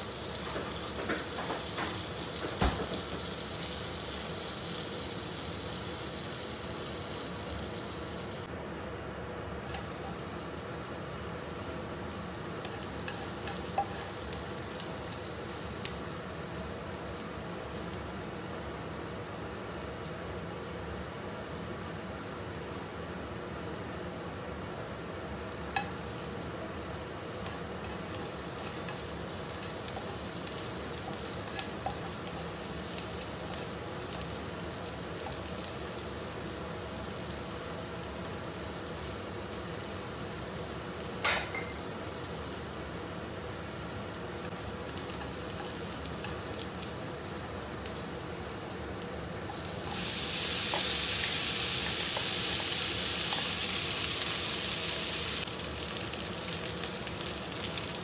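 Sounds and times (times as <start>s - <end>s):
onion sizzling in oil: 0.0s - 8.5s, 9.6s - 58.0s
loud hissy sizzle: 0.0s - 8.6s, 9.6s - 58.0s.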